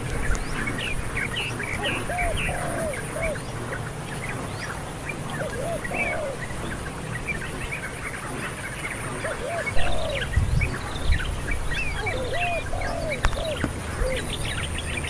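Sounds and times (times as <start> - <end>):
birds calling: 0.0 - 15.0
insects buzzing: 0.0 - 15.0.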